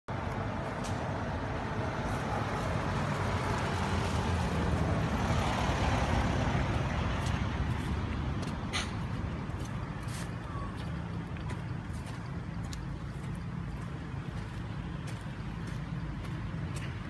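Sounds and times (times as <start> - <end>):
road traffic rumble: 0.1 - 17.0.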